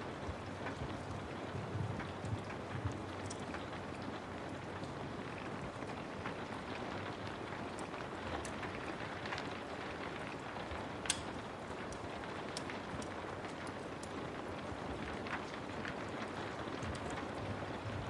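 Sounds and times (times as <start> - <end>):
steady rain: 0.0 - 18.0
wood fire crackling: 0.0 - 18.0.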